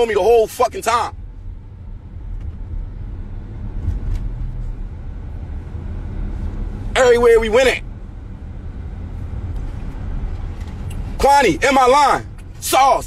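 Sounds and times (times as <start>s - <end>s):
car low rumble: 0.0s - 13.0s.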